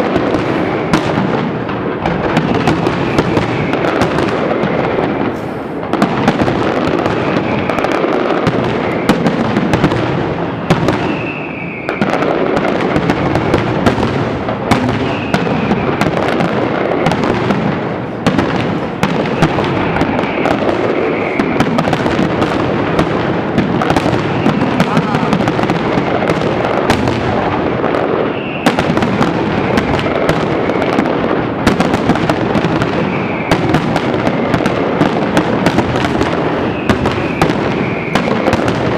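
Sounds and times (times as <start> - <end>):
fireworks bangs and crackling: 0.0 - 38.9
fireworks whistling: 0.0 - 38.9.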